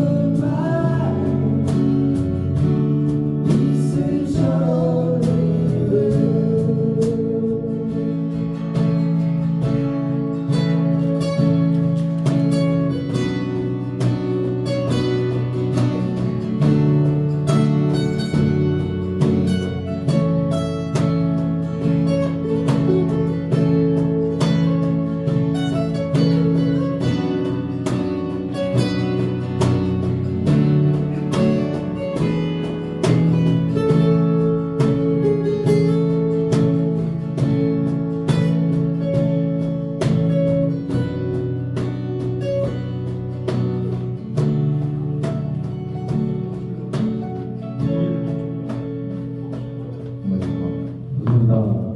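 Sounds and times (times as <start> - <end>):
strummed acoustic guitar music: 0.0 - 51.9.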